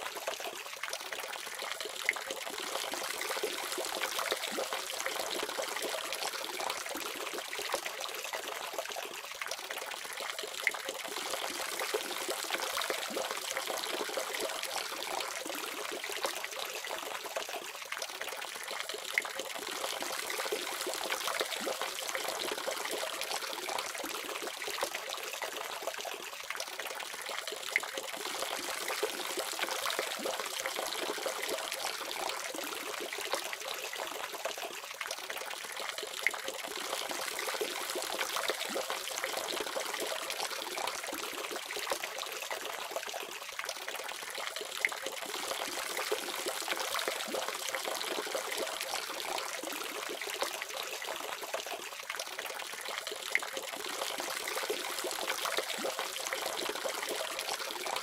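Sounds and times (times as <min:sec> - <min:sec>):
water drips and splashes: 0:00.0 - 0:58.0.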